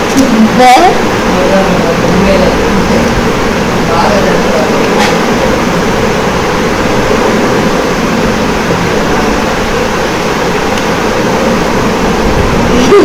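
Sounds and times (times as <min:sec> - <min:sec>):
loud rushing noise with low rumble: 0:00.0 - 0:13.0.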